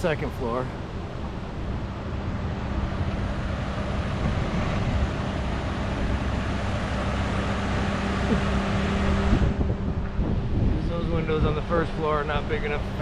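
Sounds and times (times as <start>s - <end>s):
engine humming: 0.0s - 13.0s
strong wind on microphone: 0.8s - 13.0s.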